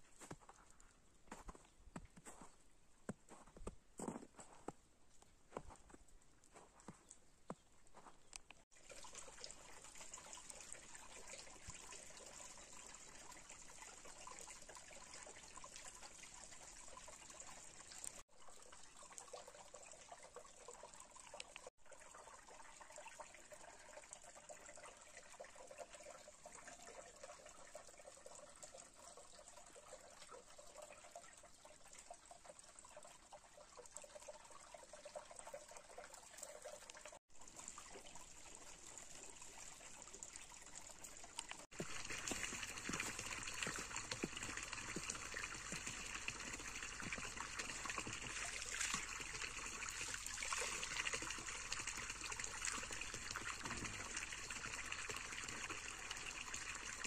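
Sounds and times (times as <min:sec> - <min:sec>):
stream trickling over rocks: 0:00.0 - 0:57.0.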